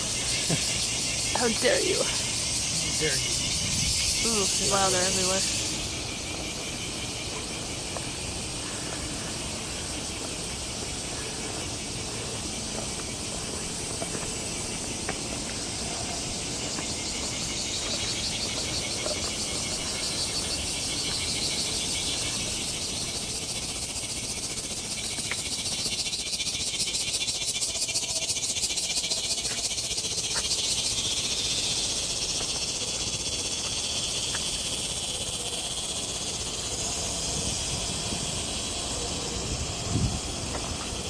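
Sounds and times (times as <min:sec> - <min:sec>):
cicadas buzzing: 0:00.0 - 0:41.0.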